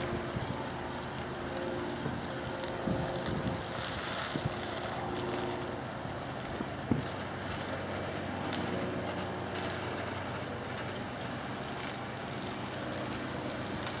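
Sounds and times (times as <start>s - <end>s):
distant propeller plane droning: 0.0s - 14.0s.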